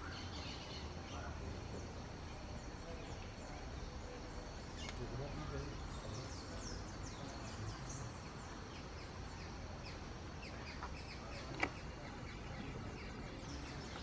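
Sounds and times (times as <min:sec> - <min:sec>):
low steady outdoor hum: 0:00.0 - 0:14.0
small birds chirping: 0:00.0 - 0:14.0.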